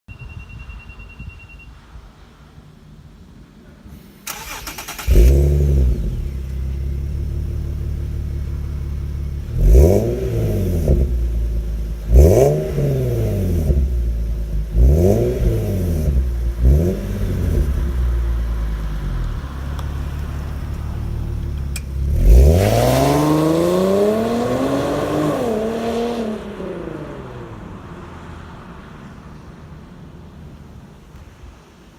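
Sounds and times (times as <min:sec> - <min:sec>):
car engine revving and idling: 0:04.3 - 0:30.8.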